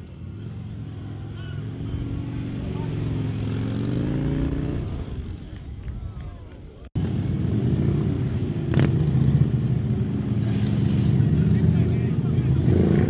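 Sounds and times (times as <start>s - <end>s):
motorcycle engine close by: 0.0s - 5.6s, 7.0s - 13.0s
motorcycles riding away: 0.0s - 5.8s, 7.0s - 13.0s.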